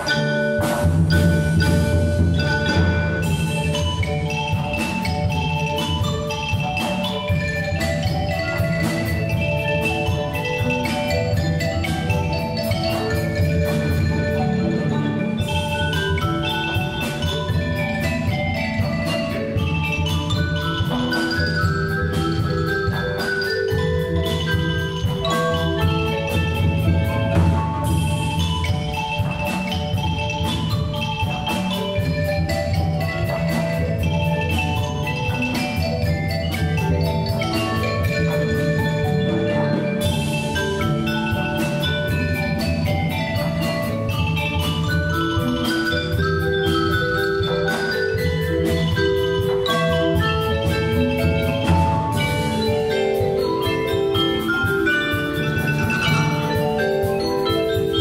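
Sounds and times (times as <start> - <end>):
drums: 0.0 - 58.0
marimbas and xylophones melody: 0.0 - 58.0.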